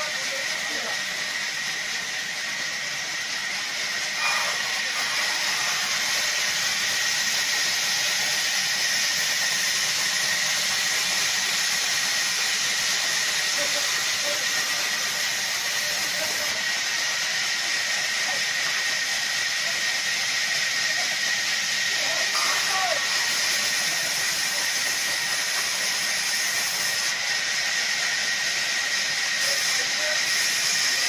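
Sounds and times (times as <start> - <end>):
band saw hissing and whining: 0.0 - 31.0.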